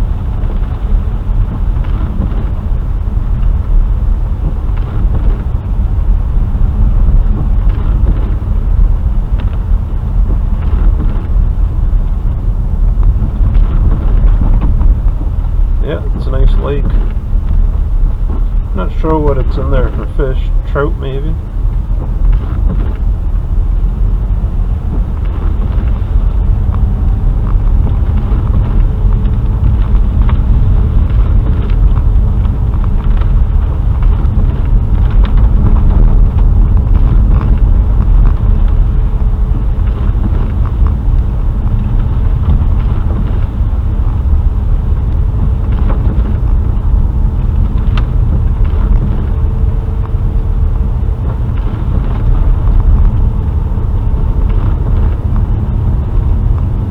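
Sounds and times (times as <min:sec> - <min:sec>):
road and engine rumble: 0:00.0 - 0:56.9.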